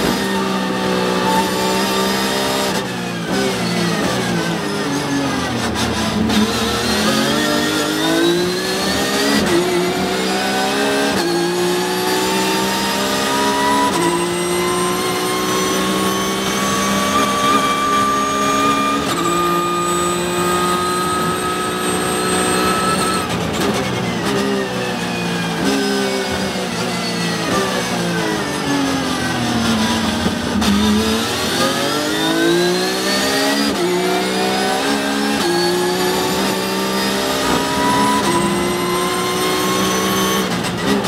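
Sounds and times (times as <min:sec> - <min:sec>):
race car engine at full throttle: 0:00.0 - 0:41.0.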